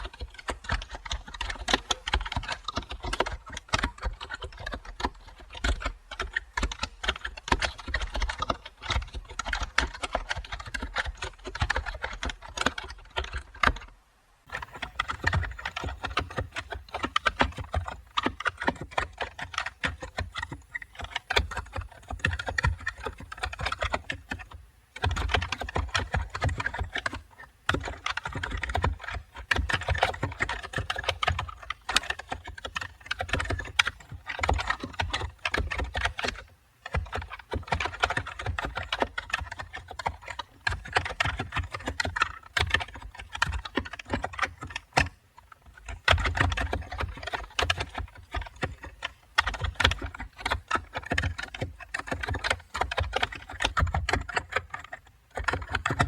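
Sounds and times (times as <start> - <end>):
fast typing on keyboard: 0.0 - 13.8, 14.5 - 56.0.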